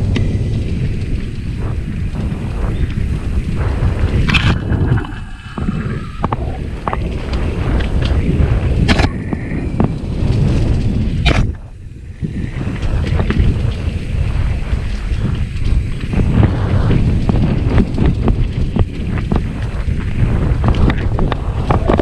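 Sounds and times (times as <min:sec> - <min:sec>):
low rumble: 0:00.0 - 0:22.0
wind buffeting microphone: 0:00.0 - 0:22.0.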